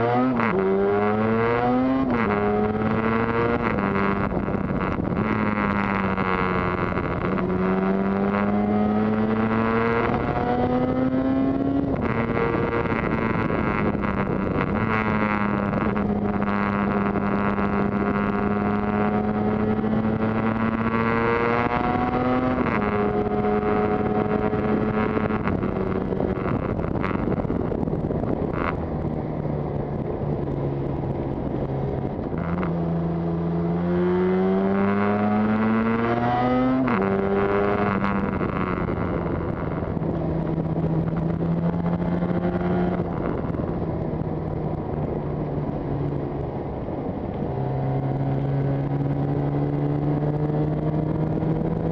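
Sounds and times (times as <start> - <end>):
motorcycle engine revving: 0.0 - 51.9
wind and road noise: 0.0 - 51.9.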